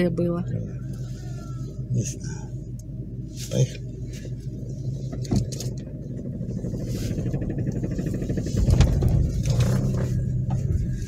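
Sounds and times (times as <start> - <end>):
car engine idling: 0.0 - 11.0
loud low rumble: 1.6 - 11.0.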